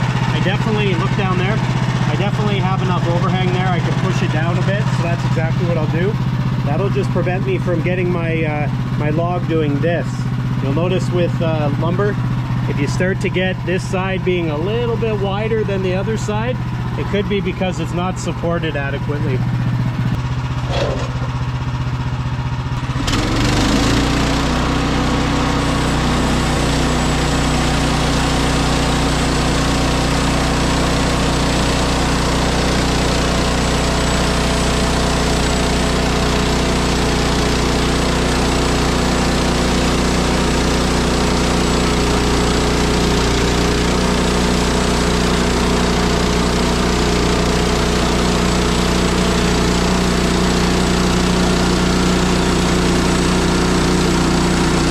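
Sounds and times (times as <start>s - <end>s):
sawmill gas engine running: 0.0s - 54.9s.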